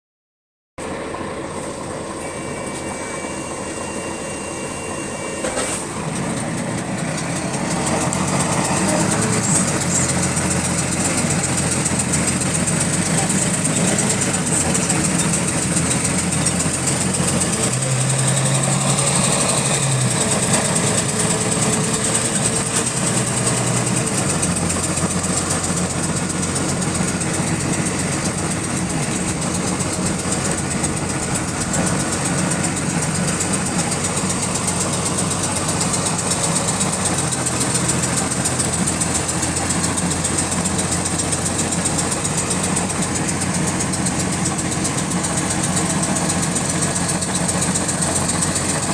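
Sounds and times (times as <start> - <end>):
diesel engine idling: 0.8 - 48.9
fast repetitive clicking: 6.4 - 48.9.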